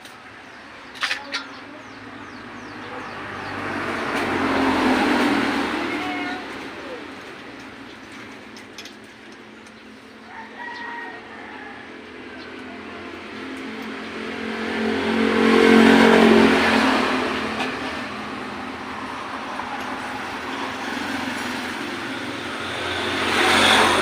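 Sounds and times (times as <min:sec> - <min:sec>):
vehicle engine passing by: 0:01.7 - 0:08.3, 0:10.0 - 0:24.0.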